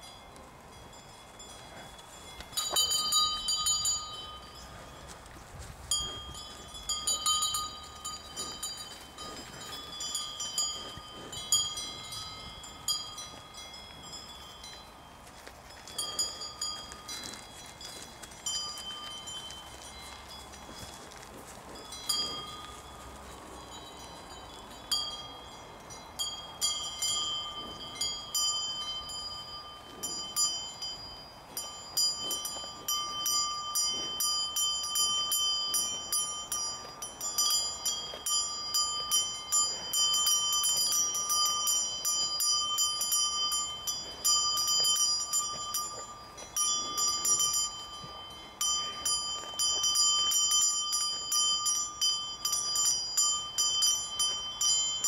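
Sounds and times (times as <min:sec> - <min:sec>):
cowbells clanking: 0:00.0 - 0:55.0.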